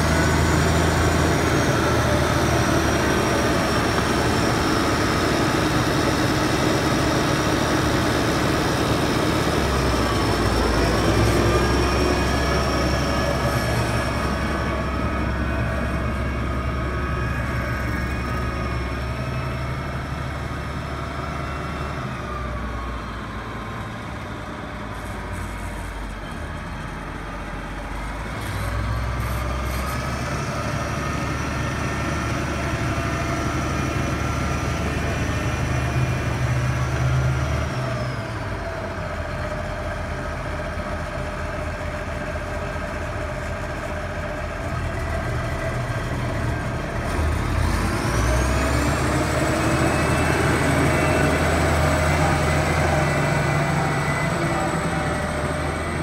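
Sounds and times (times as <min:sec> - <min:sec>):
tractor diesel engine revving: 0:00.0 - 0:25.4, 0:27.2 - 0:56.0.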